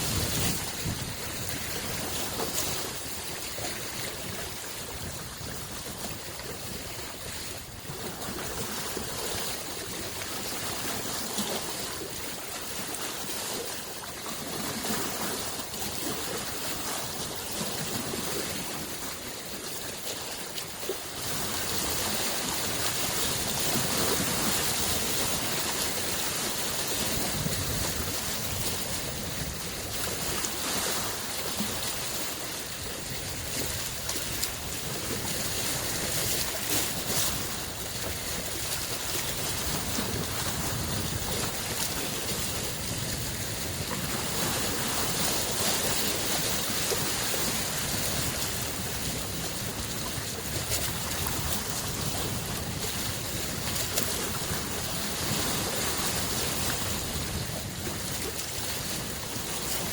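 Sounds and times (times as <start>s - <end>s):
waves lapping on shore: 0.0s - 59.9s.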